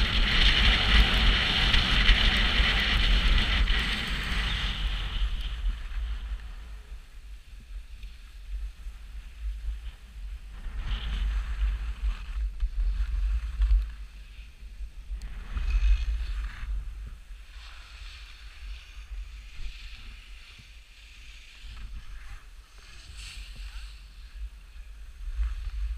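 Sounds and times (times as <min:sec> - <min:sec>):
skis scraping over snow: 0:00.0 - 0:25.9
wind buffeting microphone: 0:00.0 - 0:25.9.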